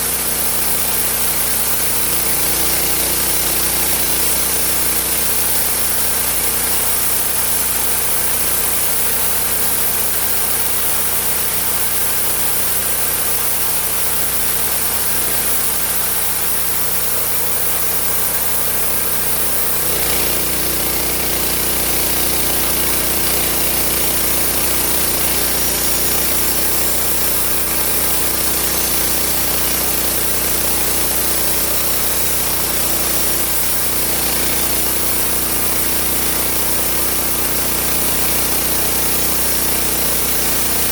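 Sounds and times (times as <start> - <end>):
sawmill engine cutting wood: 0.0 - 40.9.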